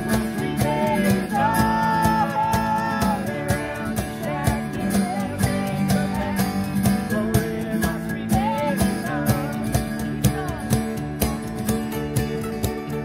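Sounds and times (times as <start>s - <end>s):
acoustic guitars strumming: 0.0s - 13.0s
voices singing: 0.0s - 13.0s.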